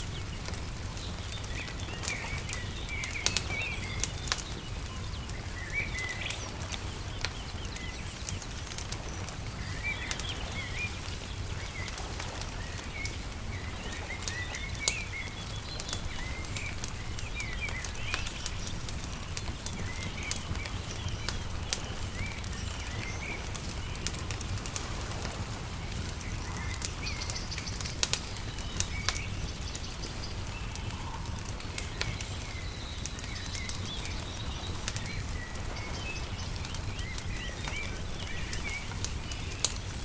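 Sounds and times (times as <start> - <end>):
birds chirping: 0.0 - 40.0
wood fire crackling: 0.0 - 40.0.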